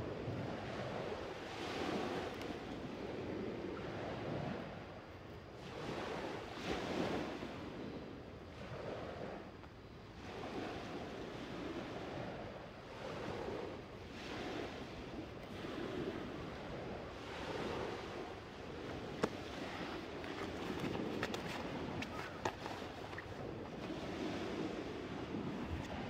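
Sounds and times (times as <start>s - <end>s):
sea waves breaking on beach: 0.0s - 4.8s, 5.6s - 7.7s, 10.2s - 26.0s.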